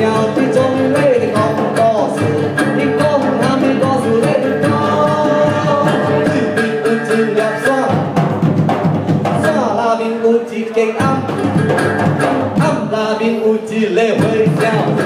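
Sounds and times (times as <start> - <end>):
man singing: 0.0 - 8.2, 9.2 - 15.0
drums beating: 0.0 - 15.0
strummed guitar: 0.0 - 15.0.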